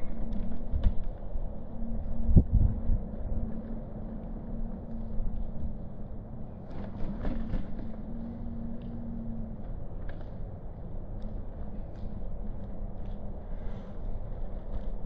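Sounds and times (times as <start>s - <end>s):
engine hum: 0.0s - 15.0s
road traffic rumble: 0.0s - 15.0s.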